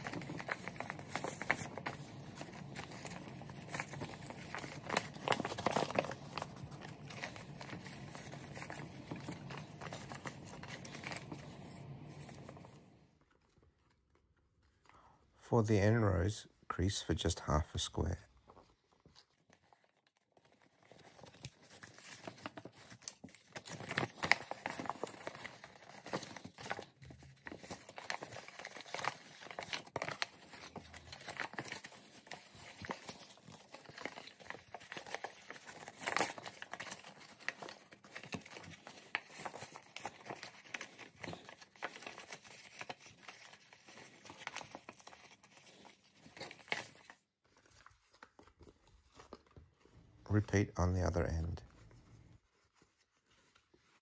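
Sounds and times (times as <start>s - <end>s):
paper crinkling while folded: 0.0s - 54.0s.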